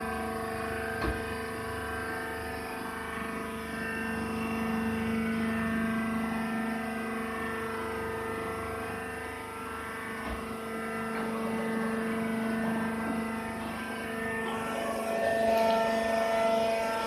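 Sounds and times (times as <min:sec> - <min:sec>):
baler machine humming: 0:00.0 - 0:17.0.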